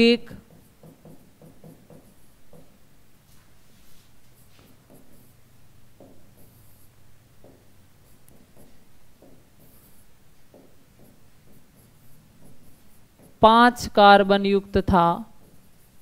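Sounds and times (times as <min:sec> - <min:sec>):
marker scratching on whiteboard: 0:00.3 - 0:16.0.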